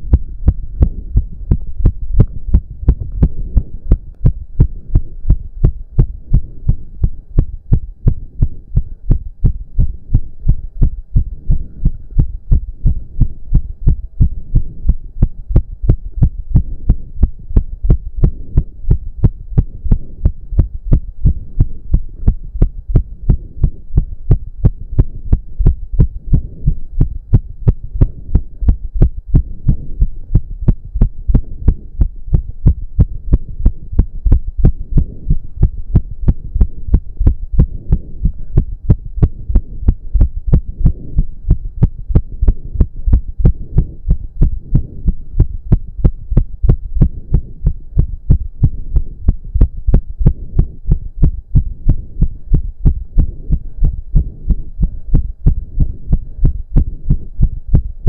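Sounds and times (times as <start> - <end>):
heart beating fast: 0.0 - 58.0
low steady hum: 0.0 - 58.0.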